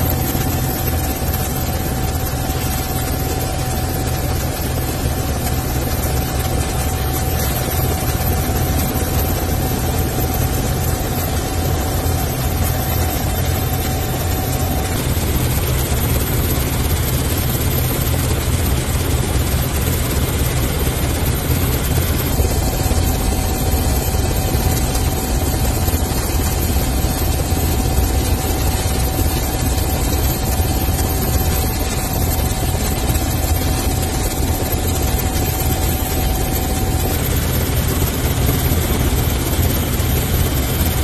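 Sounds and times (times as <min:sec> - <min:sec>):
helicopter rotor drone: 0:00.0 - 0:41.0
thin steady whine: 0:00.0 - 0:41.0.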